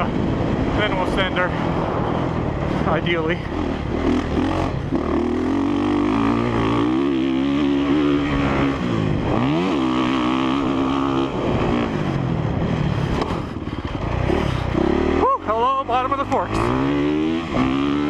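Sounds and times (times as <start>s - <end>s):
motorcycle engine under throttle: 0.0s - 18.0s.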